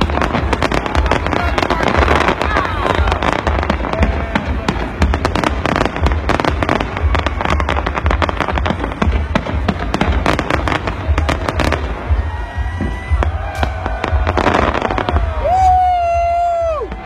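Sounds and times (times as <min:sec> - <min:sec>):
fireworks booming: 0:00.0 - 0:17.0
fireworks crackling: 0:00.0 - 0:17.0
fireworks whistling: 0:00.0 - 0:17.0.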